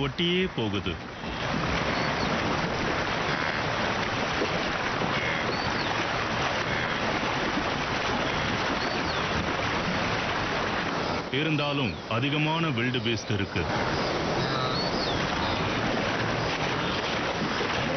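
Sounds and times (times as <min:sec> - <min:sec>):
animals splashing through river: 0:00.0 - 0:17.9.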